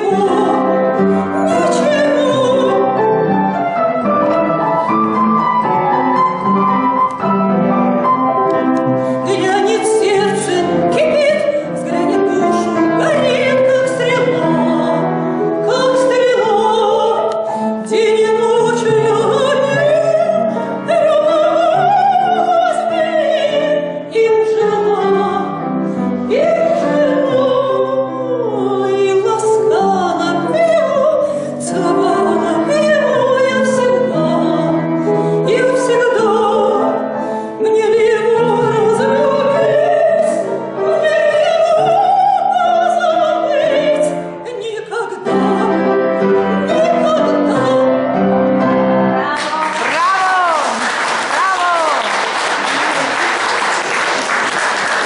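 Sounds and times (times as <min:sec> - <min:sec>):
woman singing with vibrato: 0:00.0 - 0:03.4, 0:09.2 - 0:48.2, 0:49.2 - 0:52.1
piano: 0:00.0 - 0:55.0.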